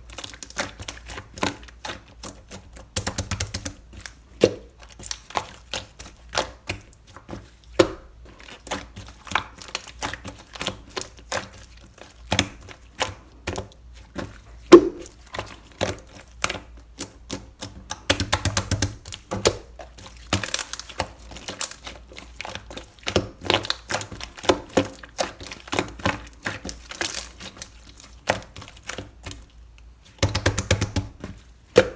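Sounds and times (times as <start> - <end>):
slime kneaded by hand: 0.0 - 31.9.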